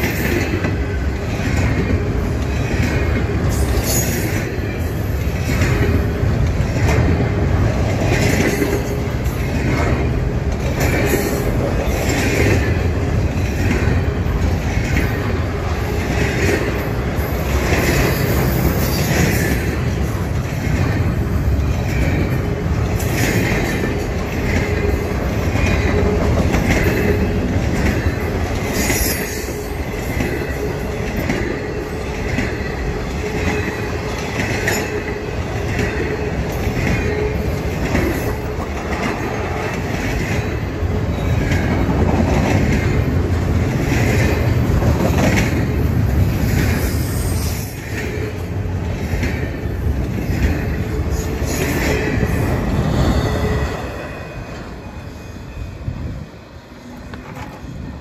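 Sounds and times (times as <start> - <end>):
rhythmic clatter of train trucks: 0.0 - 58.0
train wheels rumbling on rails: 0.0 - 58.0.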